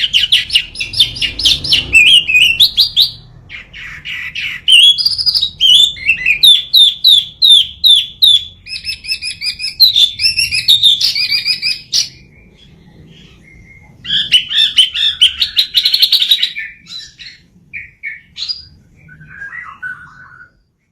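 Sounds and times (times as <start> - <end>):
songbird whistling and trilling: 0.0 - 20.8.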